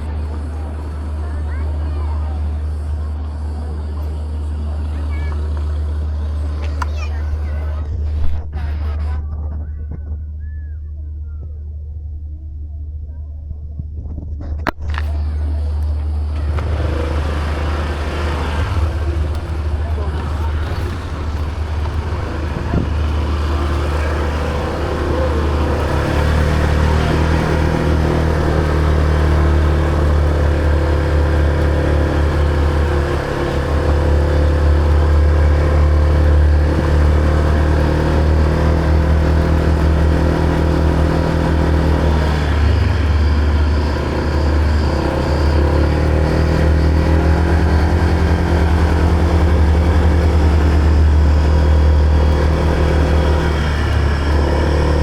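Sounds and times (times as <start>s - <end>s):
motor scooter engine running: 0.0s - 55.0s
wind buffeting microphone: 0.0s - 55.0s.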